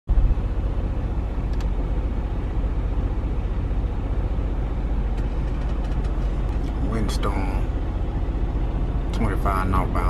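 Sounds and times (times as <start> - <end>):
truck engine rumble: 0.1 - 10.0.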